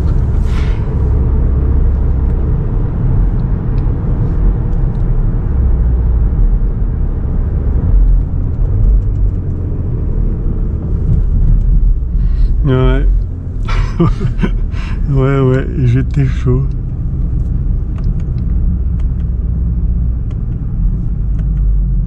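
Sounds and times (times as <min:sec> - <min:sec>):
car cabin rumble at speed: 0:00.0 - 0:22.0.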